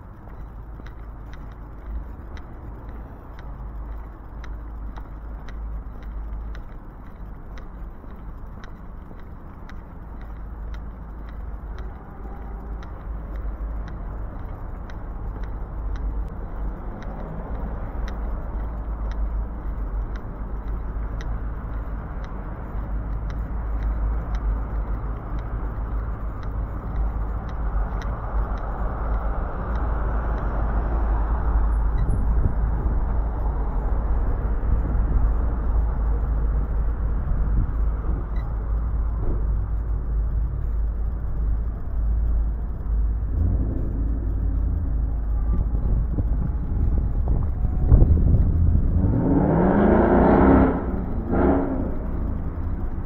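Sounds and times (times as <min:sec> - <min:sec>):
passing car traffic: 0:00.0 - 0:53.0.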